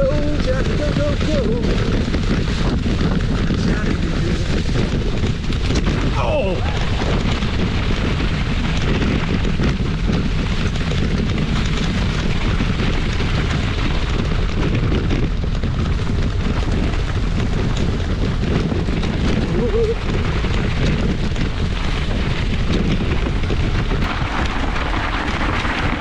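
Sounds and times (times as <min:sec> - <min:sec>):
small knocks and rattles: 0:00.0 - 0:26.0
wind buffeting microphone: 0:00.0 - 0:26.0.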